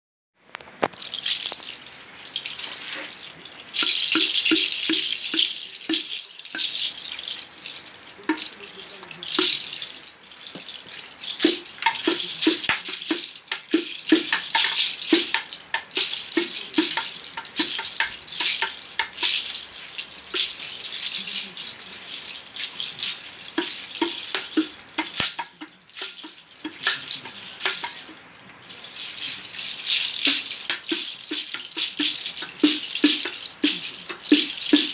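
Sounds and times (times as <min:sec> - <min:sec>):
rattle shaker shaken: 0:00.4 - 0:34.9.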